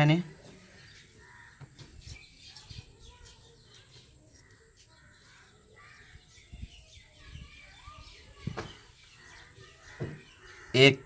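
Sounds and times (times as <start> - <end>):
faint bird calls: 0.2 - 11.0.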